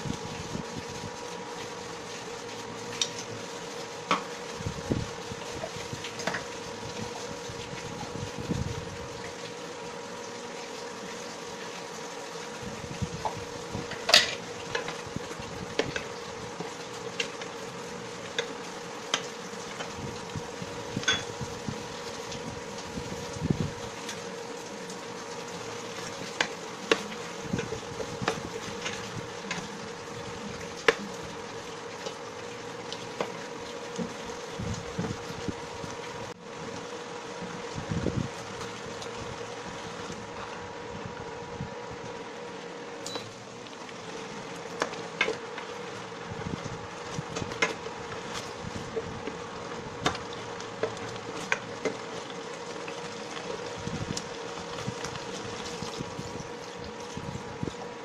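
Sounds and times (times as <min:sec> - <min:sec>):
wooden spoon stirring in a pan: 0:00.0 - 0:40.6, 0:43.5 - 0:58.0
electric cooktop humming: 0:00.0 - 0:58.0.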